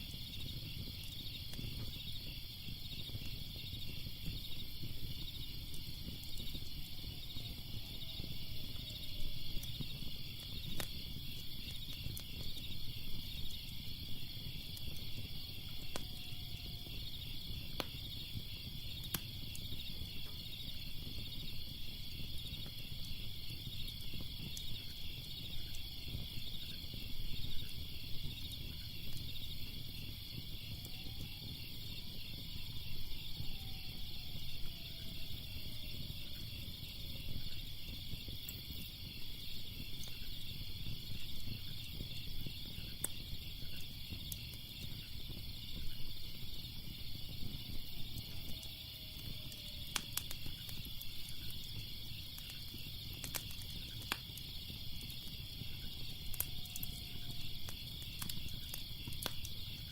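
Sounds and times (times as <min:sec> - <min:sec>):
crickets chirping: 0:00.0 - 0:59.9
fire crackling and popping: 0:00.0 - 0:59.9.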